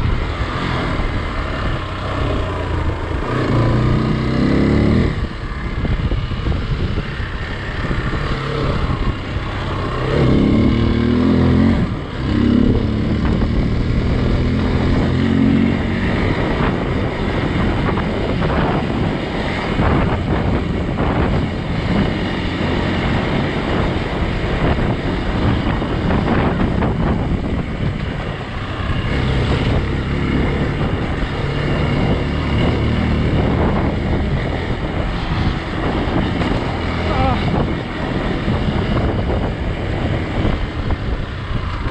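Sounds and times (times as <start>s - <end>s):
motorcycle engine running: 0.0s - 41.9s
rough rattly riding noise: 0.0s - 41.9s
wind buffeting microphone: 0.0s - 41.9s.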